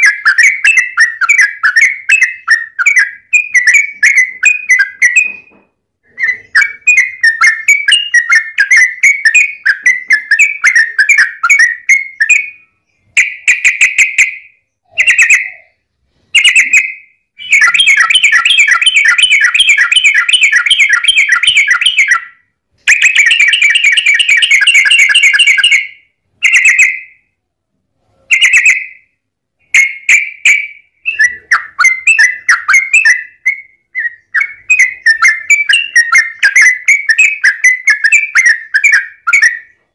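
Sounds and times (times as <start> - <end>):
bird singing chattering trills: 0.0 - 27.2, 29.7 - 39.9.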